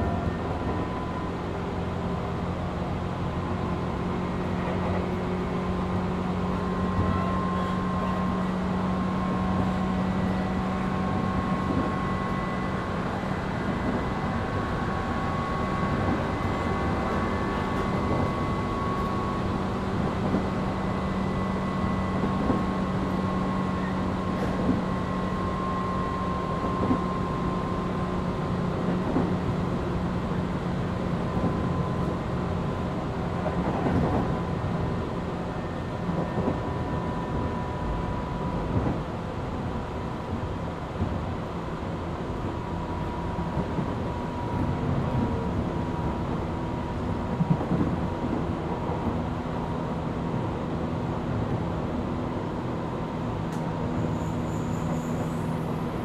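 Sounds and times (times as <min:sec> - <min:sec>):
electric train running: 0:00.0 - 0:56.0.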